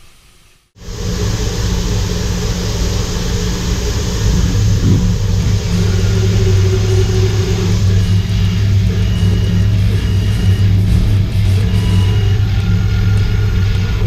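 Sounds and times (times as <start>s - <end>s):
machine low hum: 0.0s - 14.0s
coolant spray hiss: 0.1s - 14.0s.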